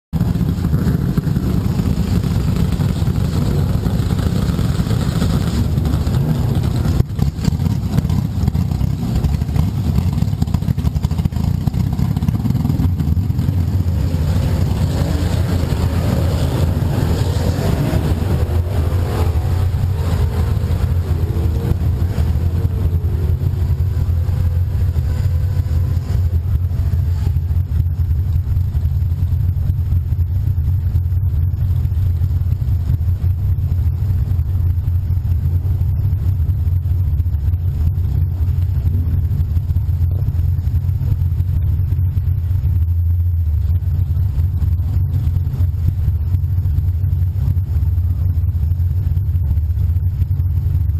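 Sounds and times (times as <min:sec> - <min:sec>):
car engine idling loudly: 0:00.1 - 0:50.9.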